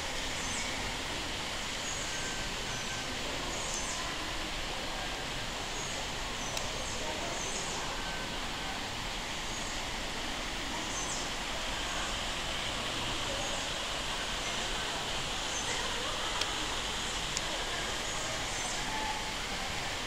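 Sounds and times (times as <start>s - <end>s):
steady ambient hiss: 0.0s - 20.0s.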